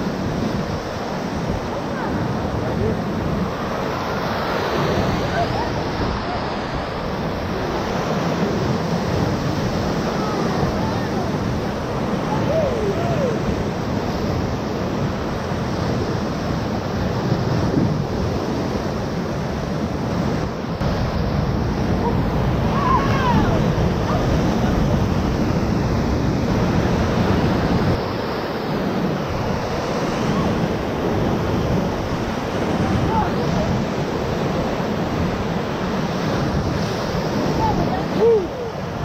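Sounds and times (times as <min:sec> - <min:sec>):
whitewater rapids rushing: 0:00.0 - 0:17.4, 0:19.8 - 0:39.0.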